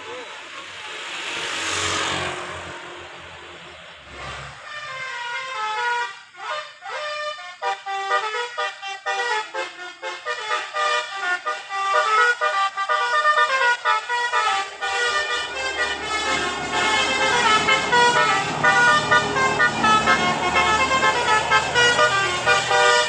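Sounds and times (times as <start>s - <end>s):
multi-tone bus air horn tune: 4.2s - 23.0s.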